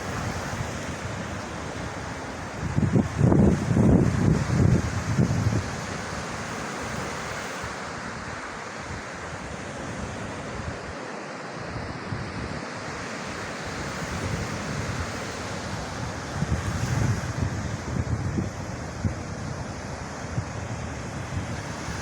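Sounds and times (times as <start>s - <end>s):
wind buffeting microphone: 0.0s - 10.9s, 13.6s - 22.0s
sea surf washing onto beach: 0.0s - 22.0s.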